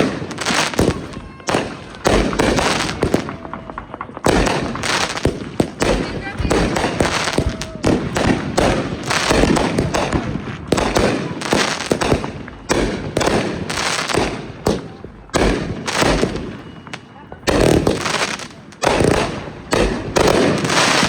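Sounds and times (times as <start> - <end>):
fireworks banging: 0.0 - 21.0
fireworks crackling: 0.0 - 21.0.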